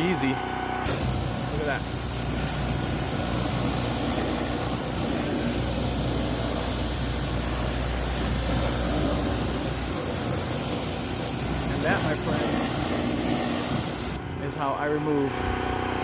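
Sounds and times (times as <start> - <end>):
low steady hum: 0.8 - 16.0
pressure washer spray hissing: 0.9 - 14.2.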